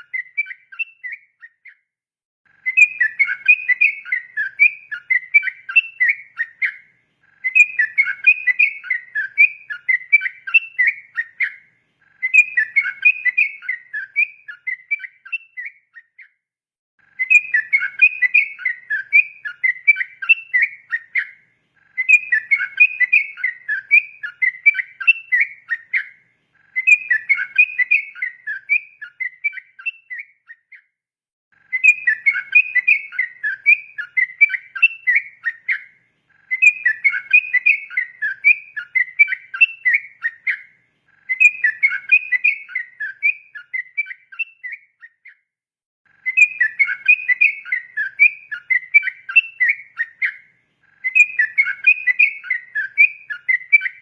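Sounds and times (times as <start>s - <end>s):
bulbul warbling song: 0.0s - 1.8s, 2.5s - 16.3s, 17.1s - 30.8s, 31.6s - 45.4s, 46.1s - 54.0s.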